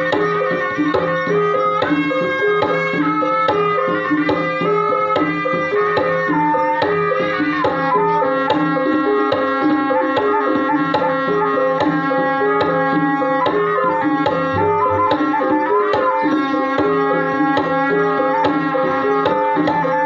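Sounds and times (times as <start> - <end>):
hand drum strokes: 0.0 - 20.0
ringing pitched percussion melody: 0.0 - 20.0.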